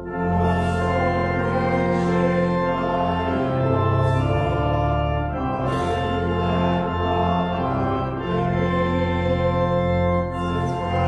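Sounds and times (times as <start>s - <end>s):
church organ chords: 0.0s - 11.0s.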